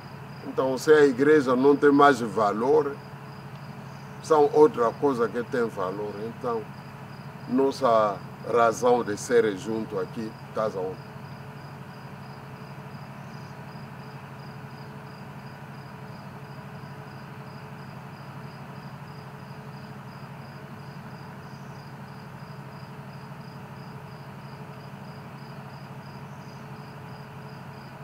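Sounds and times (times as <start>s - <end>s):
cricket chirping: 0.0s - 28.0s
steady low hum: 0.0s - 28.0s.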